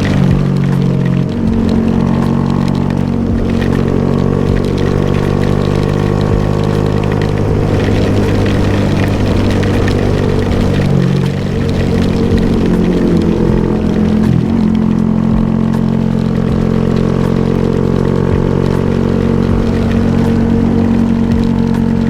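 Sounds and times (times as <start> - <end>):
constant hiss: 0.0 - 22.0
motorcycle engine accelerating: 0.0 - 22.0.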